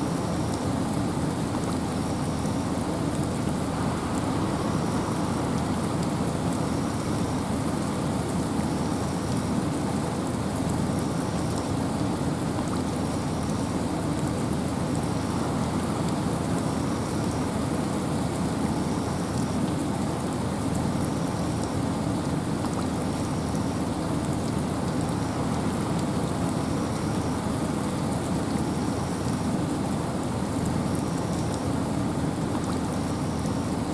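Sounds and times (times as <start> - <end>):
rain falling in a forest: 0.0 - 33.9
wind: 0.0 - 33.9.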